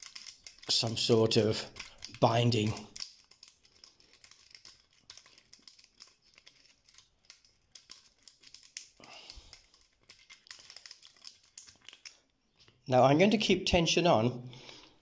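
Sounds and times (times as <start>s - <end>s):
lock pick clicking and scratching: 0.0s - 12.8s.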